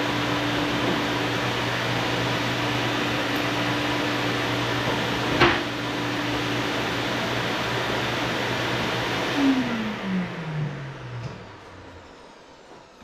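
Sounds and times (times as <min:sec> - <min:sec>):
fume extractor fan whirring: 0:00.0 - 0:13.0.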